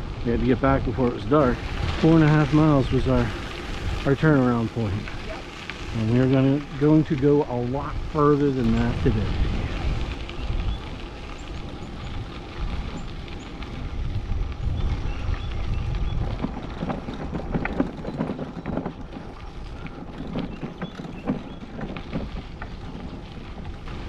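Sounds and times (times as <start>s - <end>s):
bicycle tyres crackling on gravel: 0.0s - 24.0s
steady low rumble: 0.0s - 24.0s
wind buffeting microphone: 0.0s - 24.0s.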